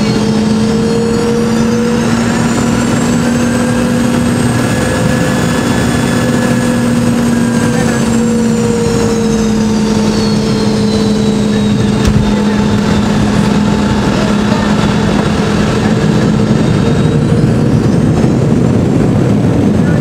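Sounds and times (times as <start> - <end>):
high engine whine: 0.0 - 20.0
jet cabin roar: 0.0 - 20.0.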